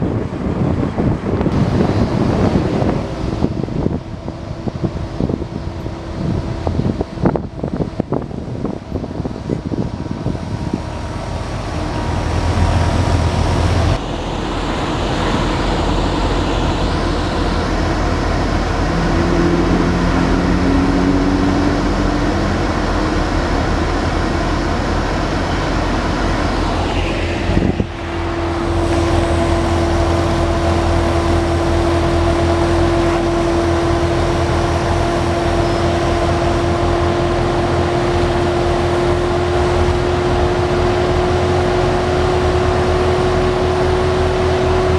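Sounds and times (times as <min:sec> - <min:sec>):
road noise: 0:00.0 - 0:44.9
vehicle engine: 0:00.0 - 0:44.9.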